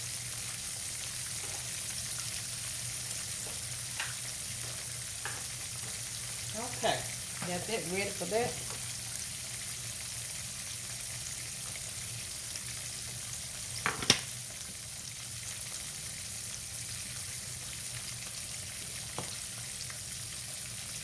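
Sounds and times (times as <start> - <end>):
cutlets sizzling in oil: 0.0 - 21.0.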